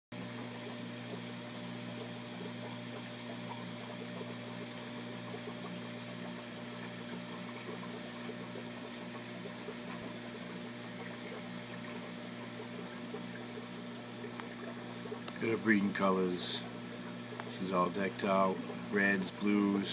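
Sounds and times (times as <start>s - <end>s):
aquarium pump humming: 0.1s - 19.9s
water trickling: 0.2s - 19.9s.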